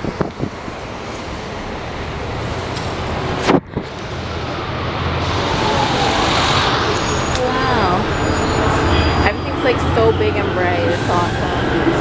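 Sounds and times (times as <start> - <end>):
bus engine and road rumble: 0.0 - 12.0
falling whine: 0.0 - 12.0.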